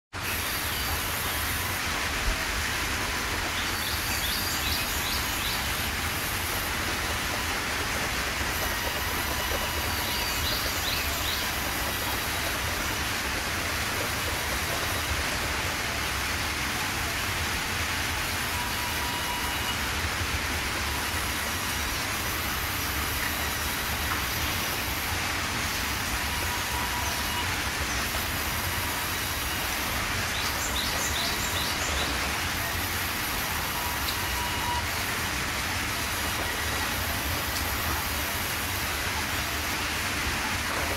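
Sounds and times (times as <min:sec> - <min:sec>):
band sawmill rumble and hiss: 0:00.2 - 0:40.9.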